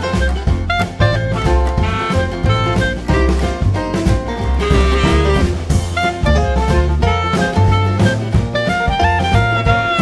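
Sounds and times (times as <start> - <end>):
jazz swing music: 0.0 - 10.0.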